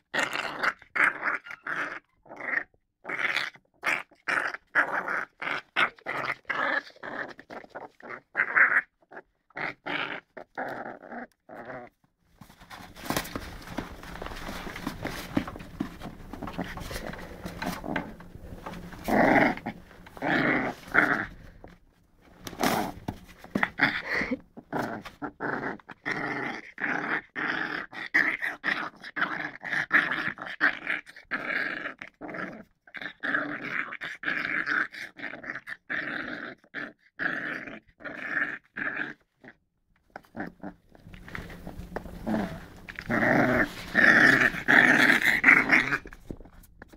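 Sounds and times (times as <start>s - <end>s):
dog growling: 0.0s - 12.0s, 13.0s - 21.8s, 22.4s - 39.6s, 40.2s - 46.5s.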